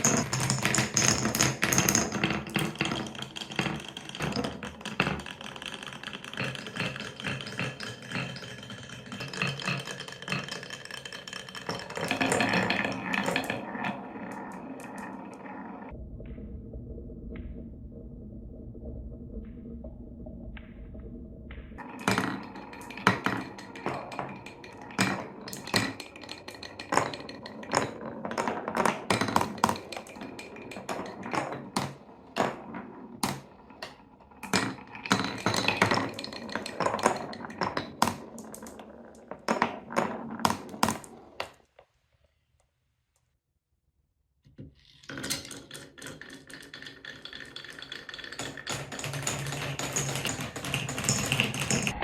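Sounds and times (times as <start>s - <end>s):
marbles clattering on wooden track: 0.0s - 15.9s, 21.8s - 41.8s, 44.8s - 52.0s
marbles rolling rumble: 0.0s - 16.0s, 21.8s - 41.6s, 44.9s - 52.0s.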